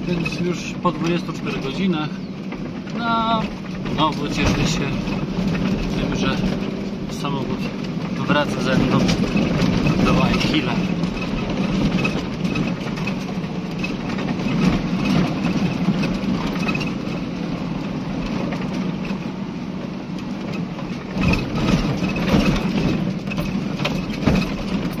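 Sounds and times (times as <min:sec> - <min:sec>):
knocks and rattles from bumps: 0:00.0 - 0:25.0
vehicle engine running: 0:00.0 - 0:25.0.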